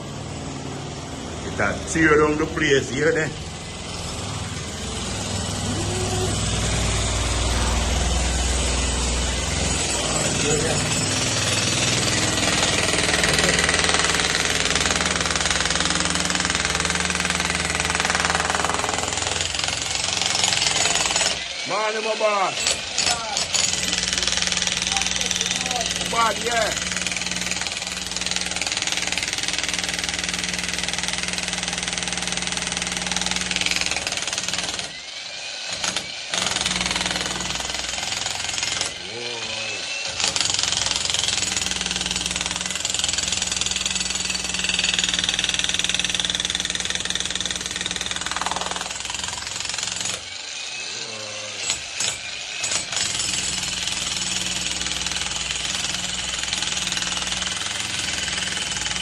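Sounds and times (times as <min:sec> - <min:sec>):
jackhammer hammering: 0:00.0 - 0:59.0.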